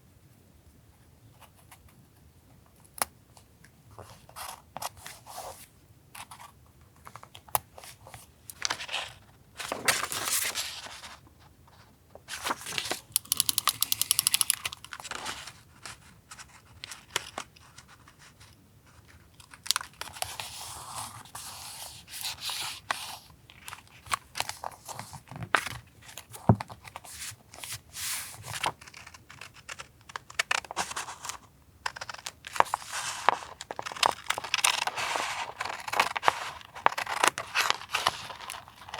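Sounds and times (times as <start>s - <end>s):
paper rustling and crinkling: 6.3s - 38.9s.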